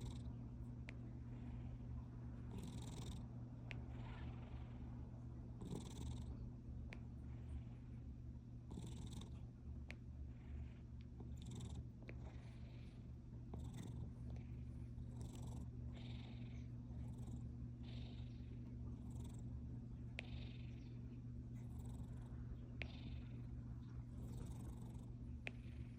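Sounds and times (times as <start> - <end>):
cat purring: 0.0 - 25.9.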